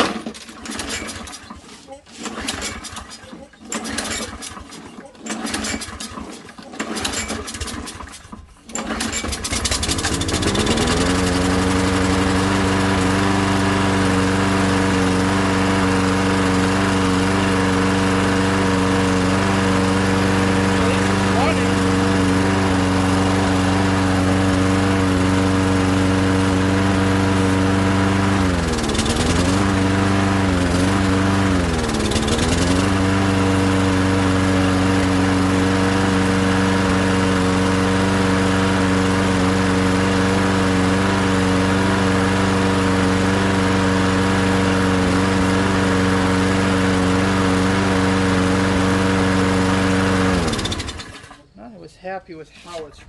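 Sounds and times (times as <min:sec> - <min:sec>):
lawnmower engine running: 0:00.0 - 0:51.6.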